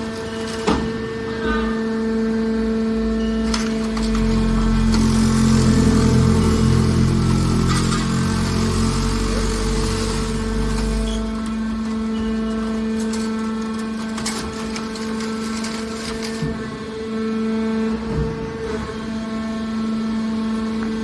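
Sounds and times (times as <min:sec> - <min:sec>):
baler motor and pump hum: 0:00.0 - 0:21.0.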